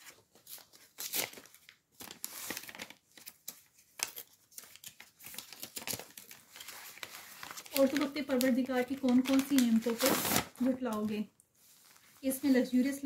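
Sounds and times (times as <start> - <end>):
plastic sheet crinkling: 0.2 - 13.0.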